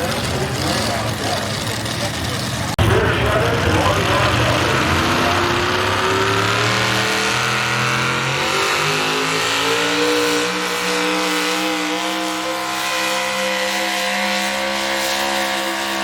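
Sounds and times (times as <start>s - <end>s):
truck engine running hard: 0.0s - 16.0s.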